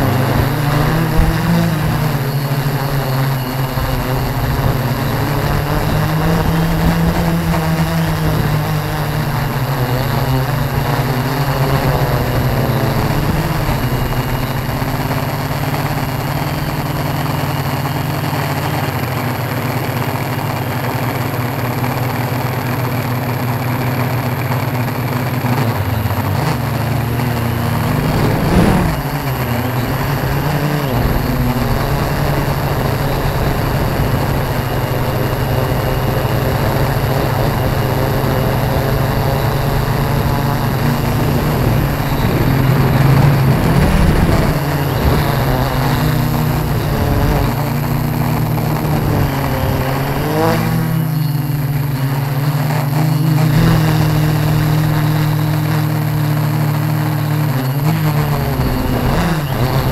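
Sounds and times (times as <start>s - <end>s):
drone propellers humming: 0.0s - 59.9s.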